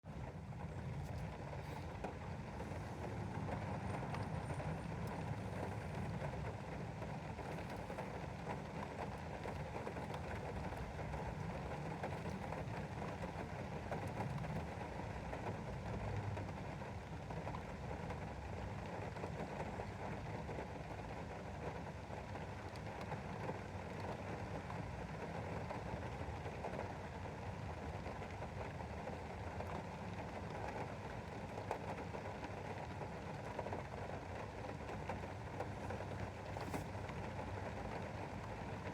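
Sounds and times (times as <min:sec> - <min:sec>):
rain pattering on a window: 0:00.0 - 0:38.9.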